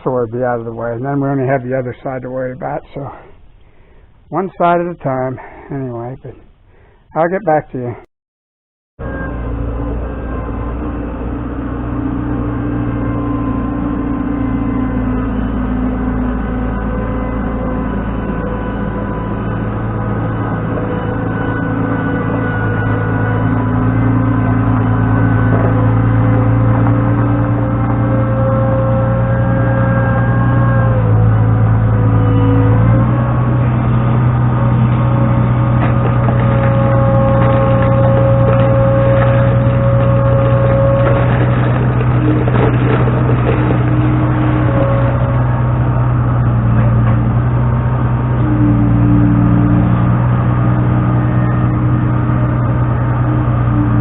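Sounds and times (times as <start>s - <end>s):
skid steer engine running: 0.0s - 7.1s, 9.0s - 54.0s.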